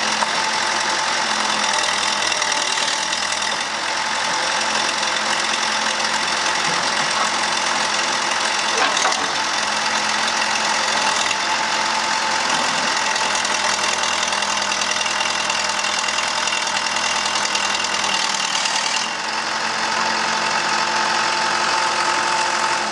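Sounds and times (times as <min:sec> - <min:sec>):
backhoe engine running: 0:00.0 - 0:22.9.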